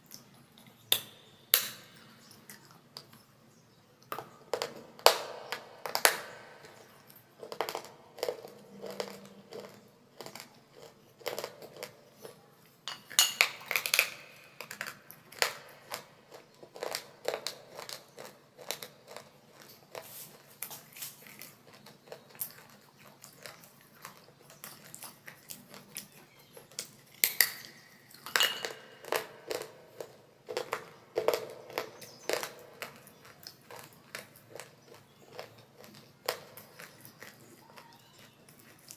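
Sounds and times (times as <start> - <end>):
clay crunching in chewing: 4.0 - 38.9.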